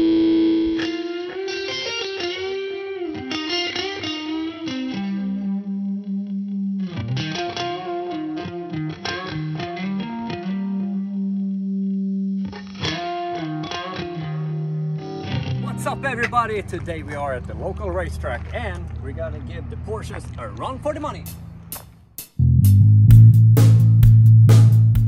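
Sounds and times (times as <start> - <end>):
distorted electric guitar music: 0.0 - 17.6, 22.4 - 25.0.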